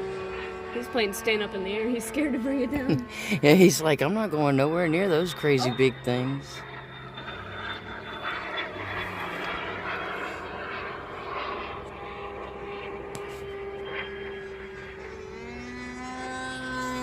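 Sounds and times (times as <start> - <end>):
lower-pitched motor whine: 0.0 - 17.0
model airplane motor whine: 0.0 - 17.0.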